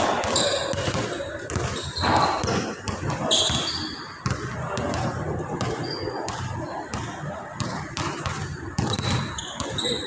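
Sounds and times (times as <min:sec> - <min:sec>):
basketballs bouncing on court floor: 0:00.0 - 0:10.0
crowded court background noise: 0:00.0 - 0:10.0.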